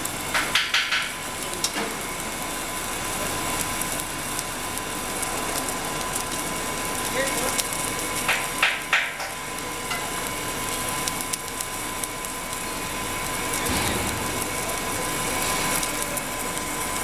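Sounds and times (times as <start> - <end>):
welding machine noise: 0.0 - 17.0.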